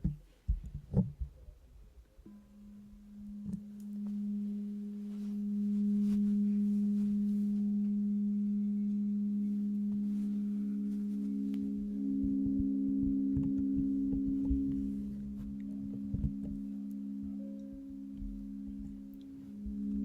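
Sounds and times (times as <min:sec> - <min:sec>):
singing bowls ringing: 0:02.3 - 0:20.0.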